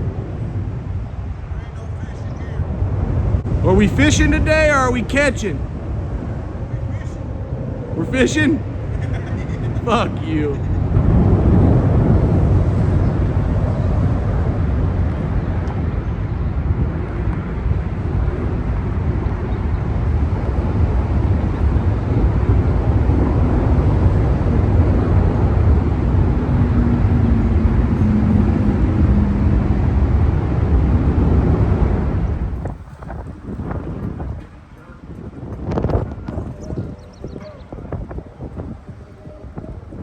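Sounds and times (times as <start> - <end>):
wind and road noise rumble: 0.0 - 40.0.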